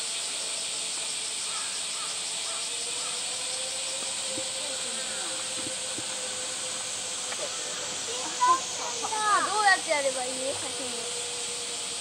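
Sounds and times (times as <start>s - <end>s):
cicada chorus drone: 0.0s - 12.0s.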